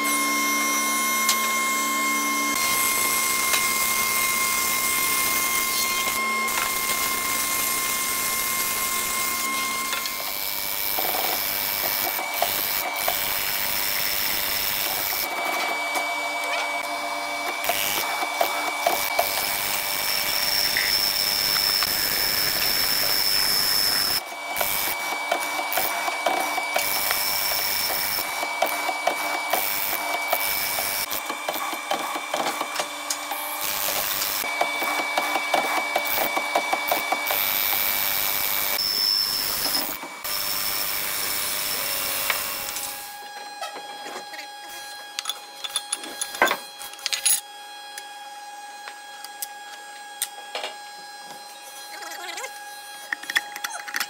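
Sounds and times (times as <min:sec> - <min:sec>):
power tool cutting wood: 0:00.0 - 0:54.0.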